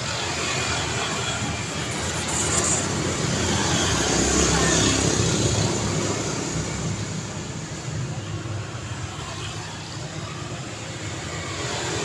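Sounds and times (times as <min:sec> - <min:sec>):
passing vehicles: 0:00.0 - 0:12.0.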